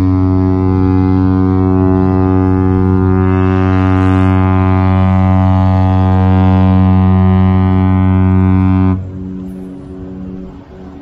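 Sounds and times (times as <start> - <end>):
steady low drone: 0.0 - 11.0.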